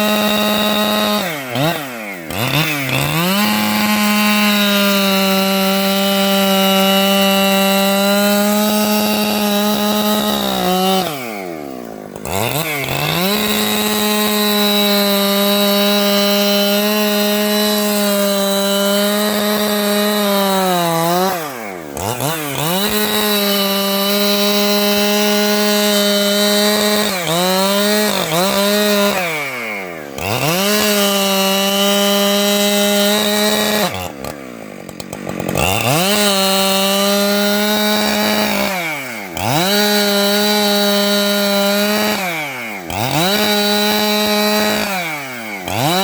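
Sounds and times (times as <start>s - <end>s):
chainsaw cutting timber: 0.0s - 46.0s.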